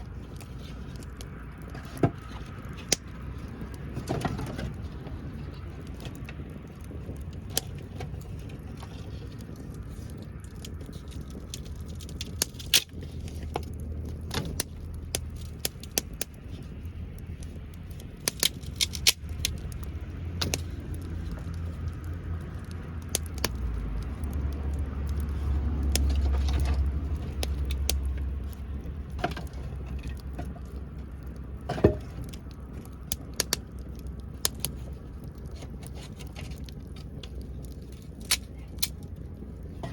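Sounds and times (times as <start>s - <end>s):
low rumble: 0.0s - 39.9s
wood fire crackling: 0.0s - 39.9s.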